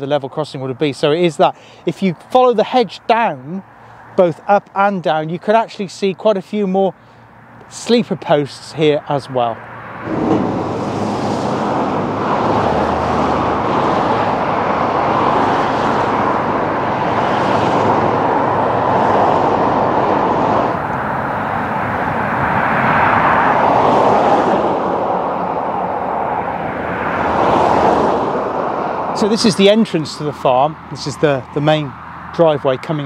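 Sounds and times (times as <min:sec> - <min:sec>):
vehicles passing on busy road: 0:00.0 - 0:33.0.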